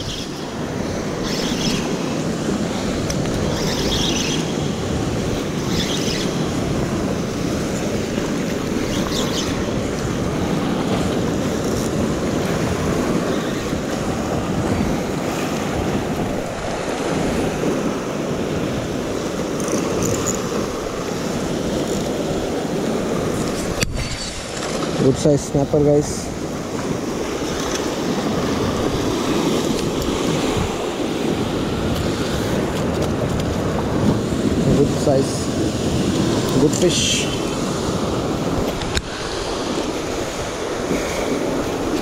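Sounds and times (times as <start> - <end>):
surf washing against rocks: 0.0 - 42.0
wind on microphone: 0.0 - 42.0.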